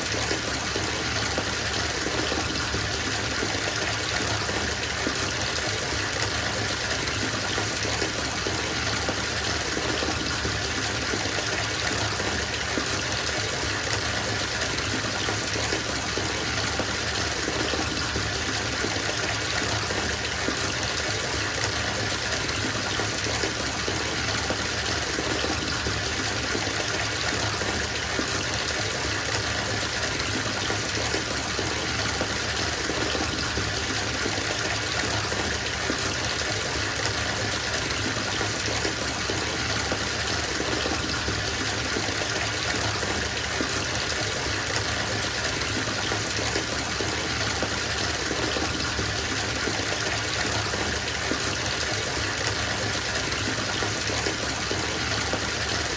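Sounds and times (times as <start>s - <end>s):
water running into bathtub: 0.0s - 55.9s.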